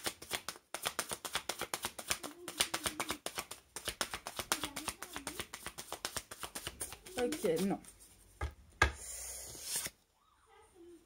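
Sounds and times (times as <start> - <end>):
cards being shuffled: 0.0 - 8.1, 9.1 - 10.0.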